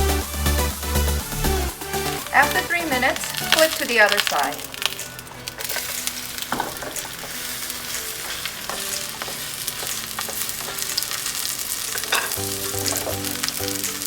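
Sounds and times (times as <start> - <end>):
oil sizzling in a skillet: 1.7 - 14.0.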